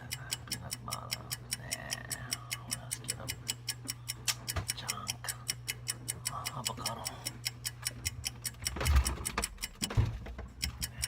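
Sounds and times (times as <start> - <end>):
fast clock-like ticking: 0.0 - 11.0
steady low hum: 0.0 - 11.0.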